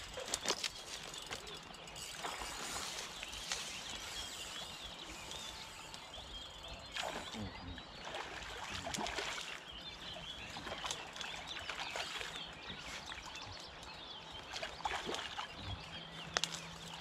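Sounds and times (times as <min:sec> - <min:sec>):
birdsong: 0:00.0 - 0:17.0.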